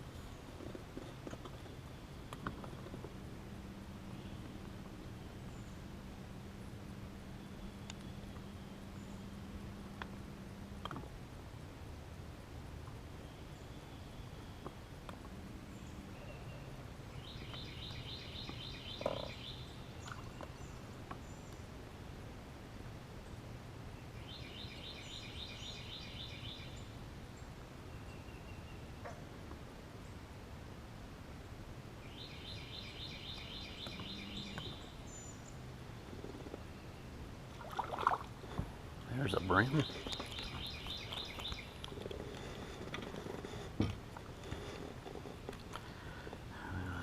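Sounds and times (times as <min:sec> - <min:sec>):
low outdoor rumble: 0:00.0 - 0:24.4, 0:26.7 - 0:47.0.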